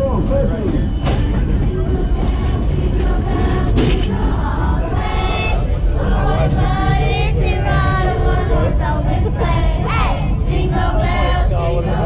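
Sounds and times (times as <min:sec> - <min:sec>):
train rumble: 0:00.0 - 0:12.0
group singing a christmas song: 0:01.7 - 0:12.0.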